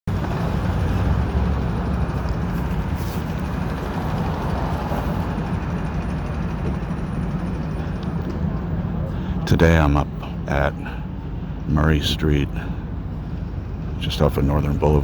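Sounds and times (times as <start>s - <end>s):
street traffic rumble: 0.1s - 15.0s.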